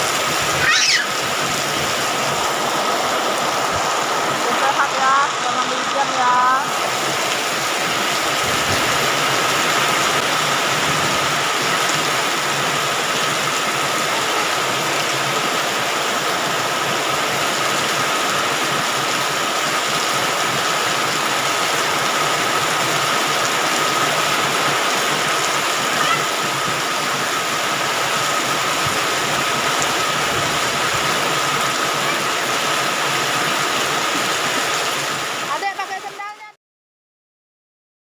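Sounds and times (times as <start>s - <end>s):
heavy rain falling: 0.0s - 36.5s.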